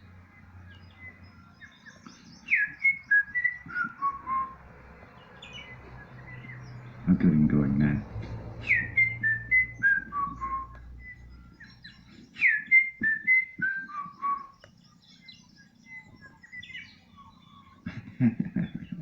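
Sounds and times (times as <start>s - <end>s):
bird singing whistled notes: 0.0s - 17.8s
faint bird chirps: 0.0s - 19.0s.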